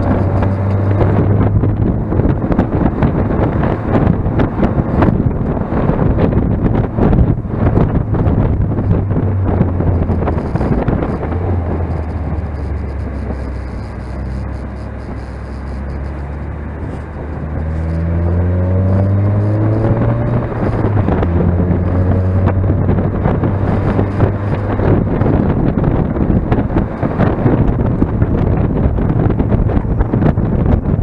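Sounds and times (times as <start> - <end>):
car engine accelerating: 0.0 - 31.0
wind rushing: 0.0 - 31.0.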